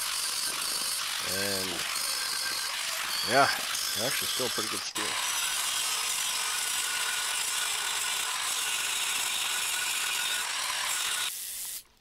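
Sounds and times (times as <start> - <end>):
angle grinder grinding metal: 0.0 - 11.9.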